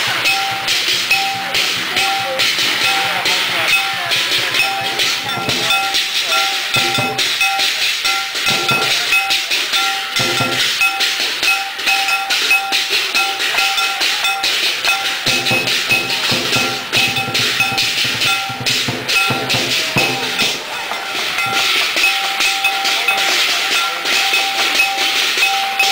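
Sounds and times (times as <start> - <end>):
cymbal crashes: 0.0 - 25.9
drum hits: 0.0 - 25.9
high ringing metal percussion: 0.0 - 25.9.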